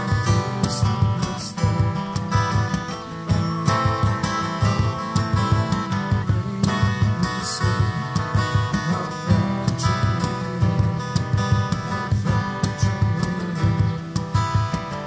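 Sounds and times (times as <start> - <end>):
acoustic guitars playing: 0.0 - 15.0.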